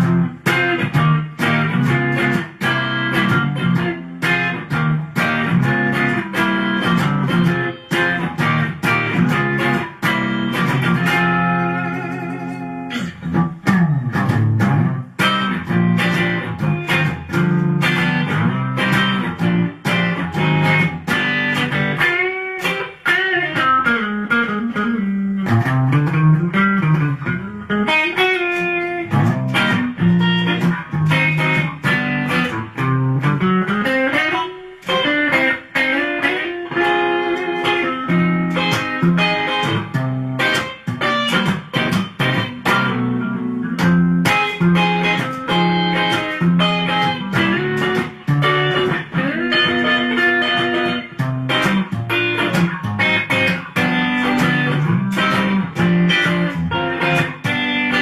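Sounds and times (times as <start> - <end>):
electric guitar rockabilly line: 0.0 - 58.0.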